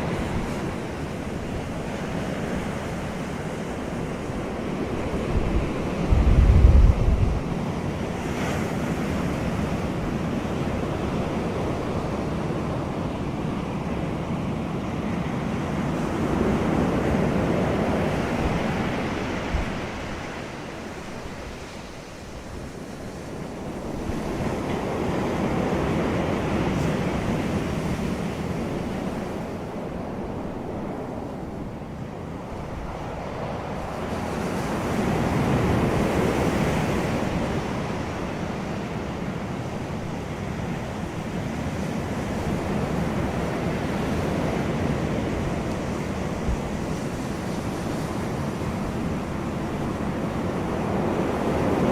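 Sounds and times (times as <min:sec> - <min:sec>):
wind buffeting microphone: 0:00.0 - 0:13.2, 0:13.8 - 0:51.9.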